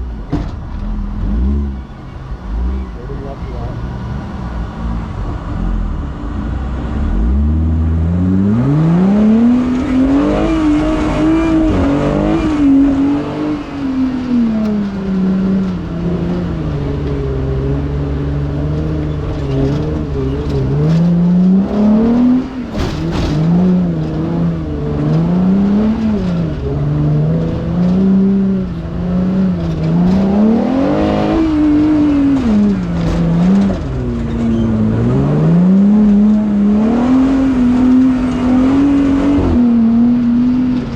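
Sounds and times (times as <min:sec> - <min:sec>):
race vehicle engine revving: 0:00.0 - 0:40.9.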